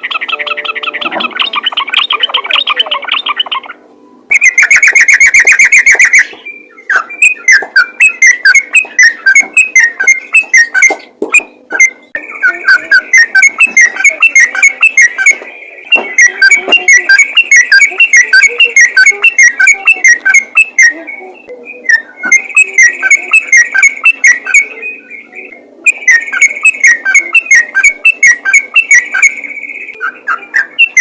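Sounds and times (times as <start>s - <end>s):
bird singing rapid chirping notes: 0.0s - 31.0s.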